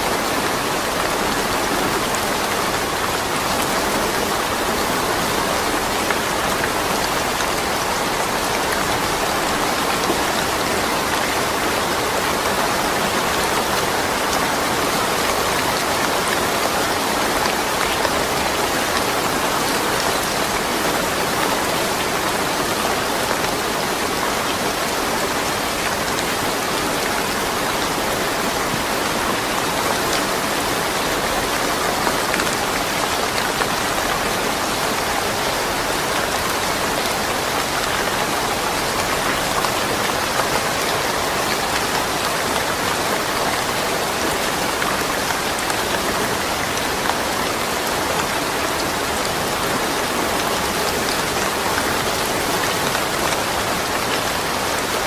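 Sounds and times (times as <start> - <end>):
rain patter on surfaces: 0.0 - 55.0.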